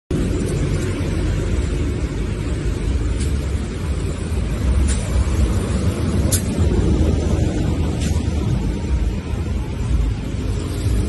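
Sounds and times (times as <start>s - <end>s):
truck engines idling: 0.1s - 11.0s.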